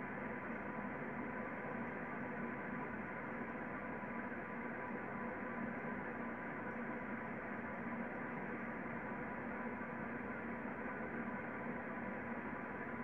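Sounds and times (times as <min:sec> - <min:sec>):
faint constant tones: 0:00.0 - 0:13.0.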